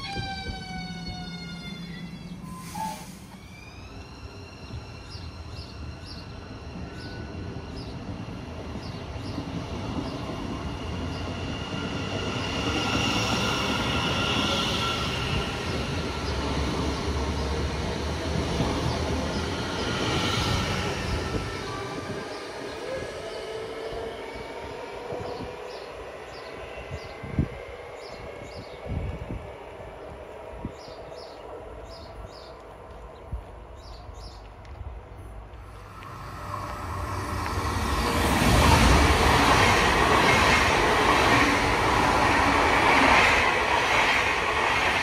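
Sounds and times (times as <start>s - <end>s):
electric train whine: 0.0s - 45.0s.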